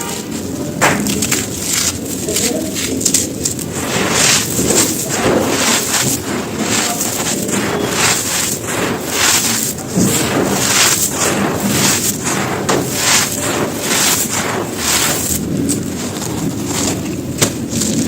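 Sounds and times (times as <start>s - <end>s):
stone crushing and crumbling: 0.4s - 18.0s.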